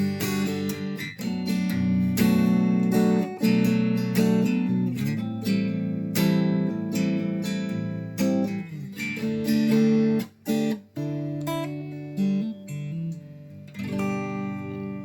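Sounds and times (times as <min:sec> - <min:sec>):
clean electric guitar playing: 0:00.0 - 0:15.0.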